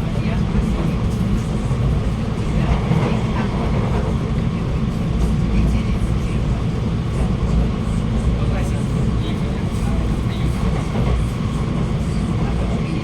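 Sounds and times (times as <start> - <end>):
metro train wheels rumbling: 0.0 - 13.0.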